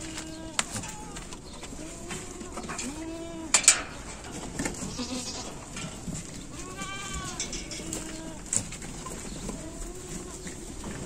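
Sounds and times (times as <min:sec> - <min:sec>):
goats bleating: 0:00.0 - 0:03.7, 0:04.6 - 0:05.8, 0:06.4 - 0:10.7.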